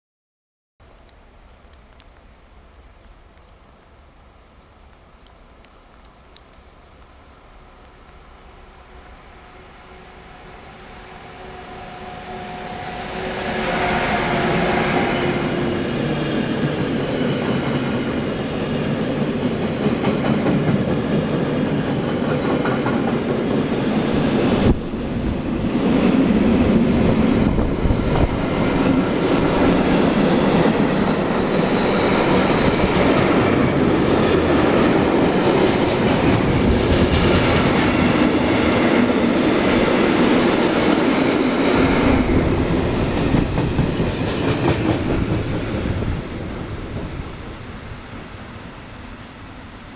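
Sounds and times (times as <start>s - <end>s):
electric locomotive humming: 1.0s - 49.9s.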